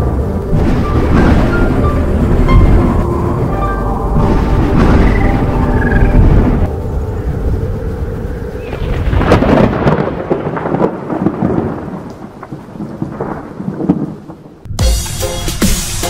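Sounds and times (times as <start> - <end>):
thunder rumbling and crackling: 0.0 - 14.7.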